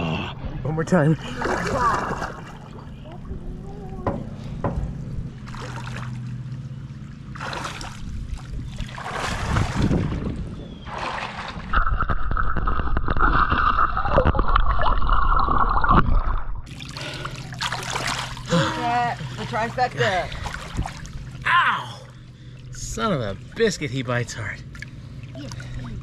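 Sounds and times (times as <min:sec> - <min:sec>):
water splashing and gurgling: 0:01.2 - 0:04.0, 0:05.4 - 0:23.9, 0:24.5 - 0:26.0.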